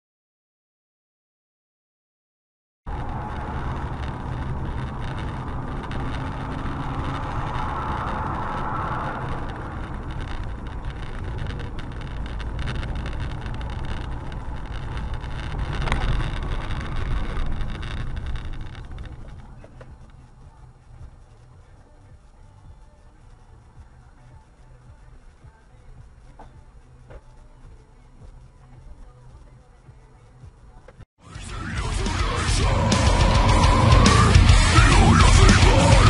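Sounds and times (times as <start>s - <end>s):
car engine and road noise: 2.9s - 36.0s
faint whine: 2.9s - 36.0s.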